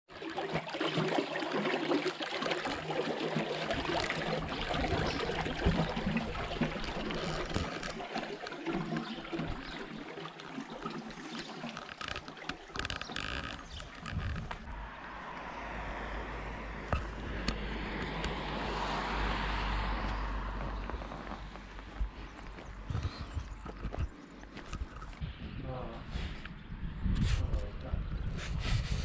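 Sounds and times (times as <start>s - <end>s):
water flowing in gutter: 0.1s - 25.3s.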